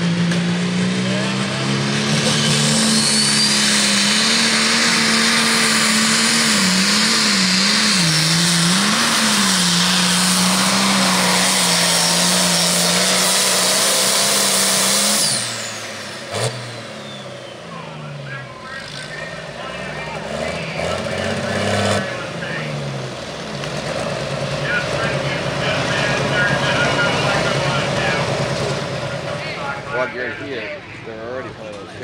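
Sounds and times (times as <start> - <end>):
turbocharged diesel engine under load: 0.0 - 32.0.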